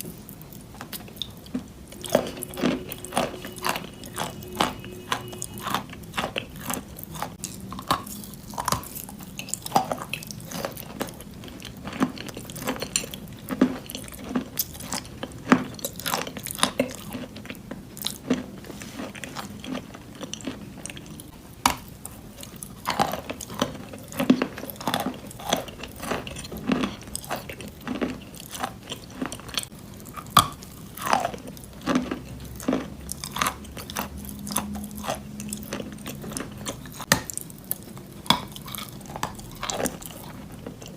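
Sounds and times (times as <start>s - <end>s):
person chewing chalk crunches: 0.0s - 40.9s.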